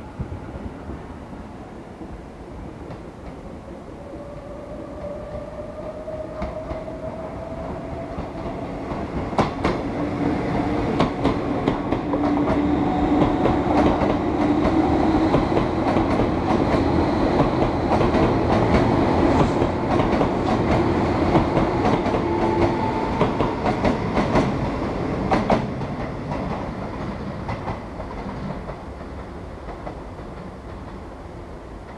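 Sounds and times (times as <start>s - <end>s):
electric train running past: 0.0s - 31.9s.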